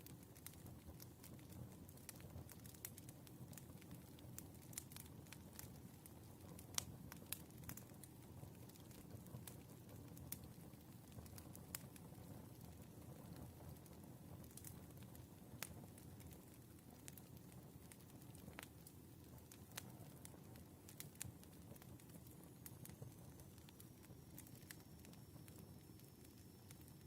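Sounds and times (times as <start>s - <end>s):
fire low rumble: 0.0s - 27.0s
firewood crackling and popping: 0.0s - 27.0s.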